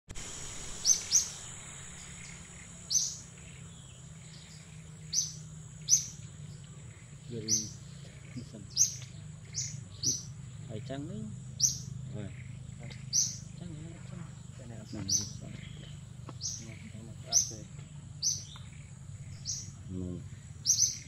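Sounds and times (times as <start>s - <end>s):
birds chirping: 0.1s - 21.0s
high insect whine: 0.1s - 21.0s.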